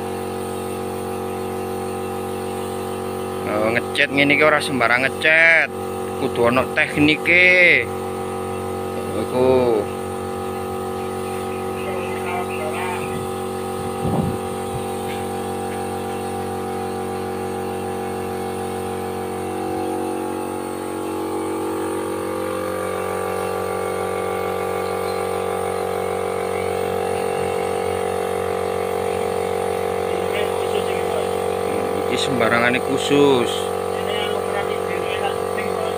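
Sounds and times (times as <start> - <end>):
machine hum: 0.0 - 35.9.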